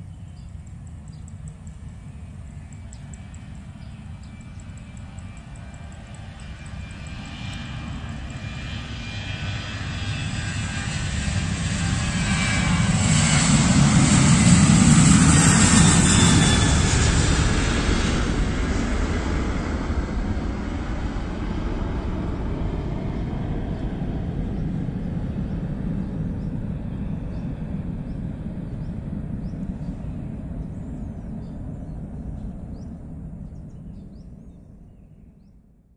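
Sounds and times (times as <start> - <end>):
jet airliner taking off: 0.0 - 34.9.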